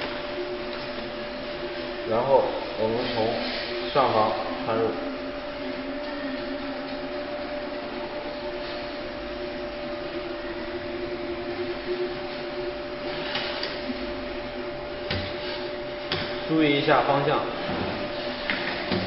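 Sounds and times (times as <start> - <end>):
fan hum and hiss with tones: 0.0 - 19.0.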